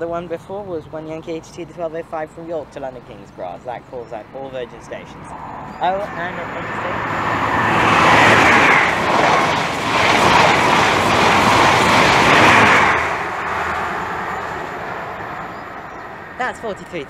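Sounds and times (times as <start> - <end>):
train passing through station: 3.3 - 17.0.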